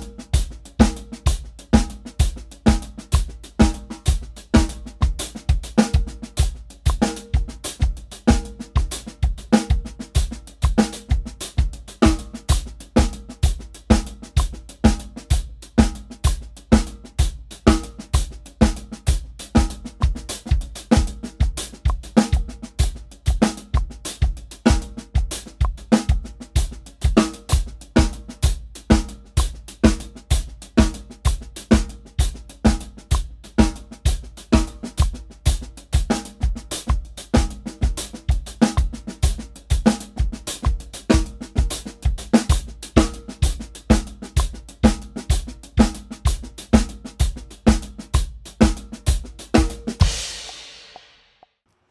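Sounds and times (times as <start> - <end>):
drum kit playing: 0.0 - 51.4.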